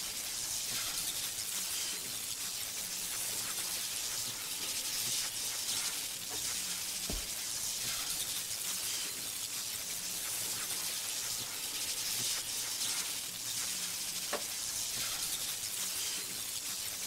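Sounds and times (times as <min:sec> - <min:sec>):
vinyl record hiss and crackle: 0:00.0 - 0:17.0.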